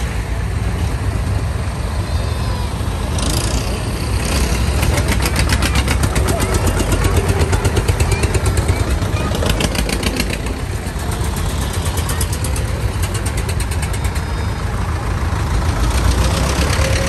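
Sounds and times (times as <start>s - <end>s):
tractor diesel engines at low revs: 0.0s - 17.0s
rapid even engine ticking: 3.2s - 17.0s.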